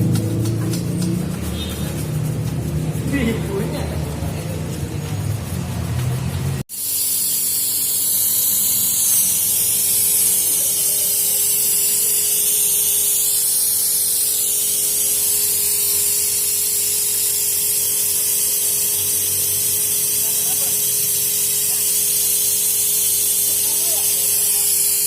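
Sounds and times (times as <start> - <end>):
high-pitched spray hiss: 0.1 - 25.0.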